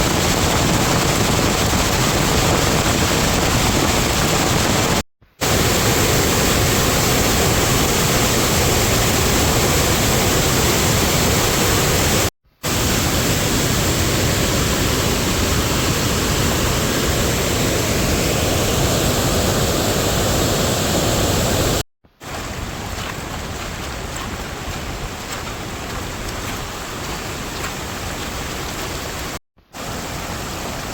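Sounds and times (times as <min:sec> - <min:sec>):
heavy rain hissing: 0:00.0 - 0:30.9.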